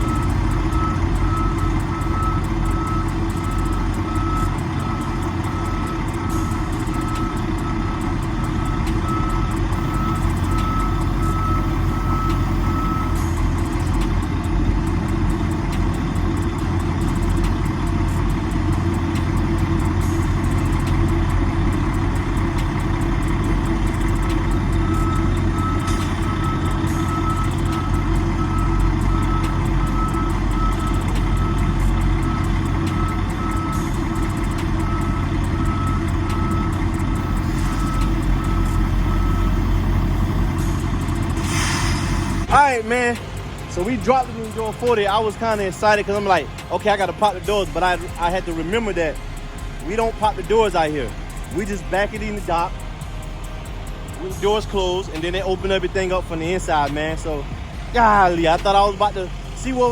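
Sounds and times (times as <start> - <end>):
back-up alarm beeping: 0.0 - 52.5
diesel truck engine running: 0.0 - 59.9.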